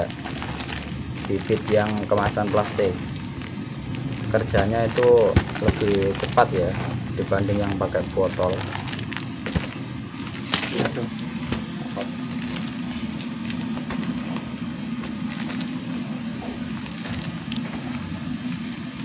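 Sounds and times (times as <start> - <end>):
plastic bag crinkling and rustling: 0.0 - 19.0
steady low hum: 0.0 - 19.0.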